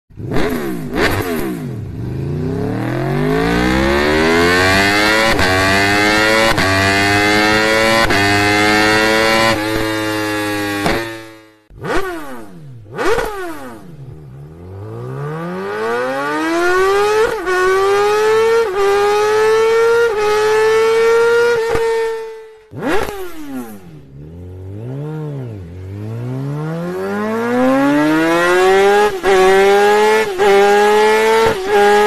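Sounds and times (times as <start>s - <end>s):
motorcycle engine revving and accelerating: 0.1s - 32.0s.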